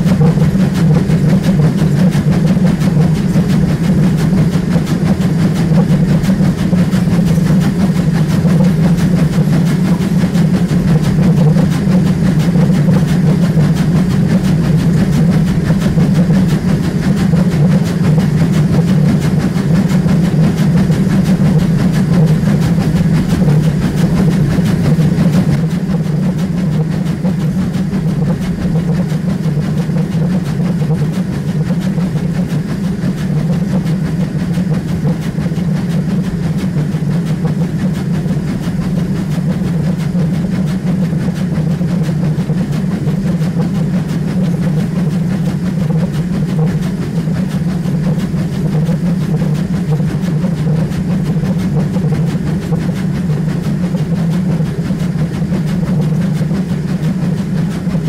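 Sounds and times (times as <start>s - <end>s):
steam locomotive rumbling: 0.0s - 58.0s.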